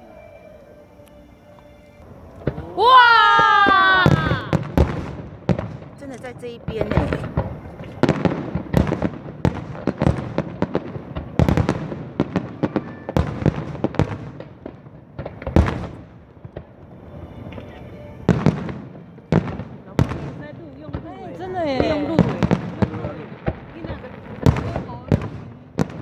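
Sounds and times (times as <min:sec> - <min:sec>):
fireworks bangs and crackles: 0:01.9 - 0:26.0.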